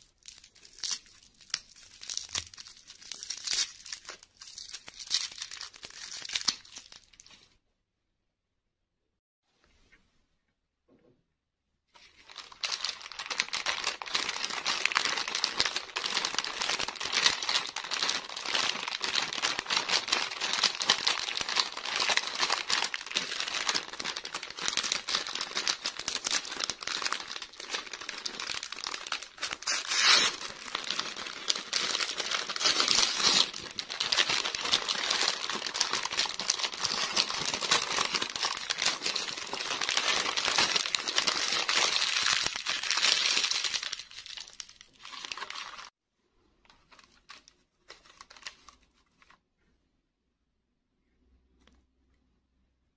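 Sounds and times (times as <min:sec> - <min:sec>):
plastic wrapper crinkling: 0:00.0 - 0:07.5, 0:12.0 - 0:45.9, 0:46.6 - 0:49.4.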